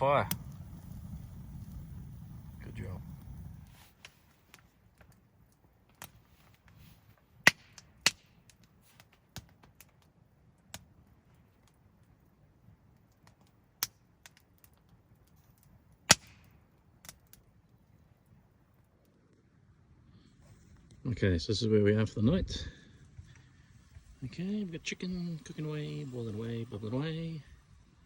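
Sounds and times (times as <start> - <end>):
campfire crackling and popping: 0.0 - 21.0, 21.8 - 28.0
faint low hiss: 0.0 - 28.0.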